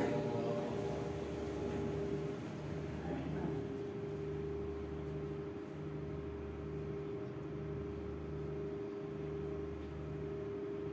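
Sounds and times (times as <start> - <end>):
low mechanical hum: 0.0 - 10.9.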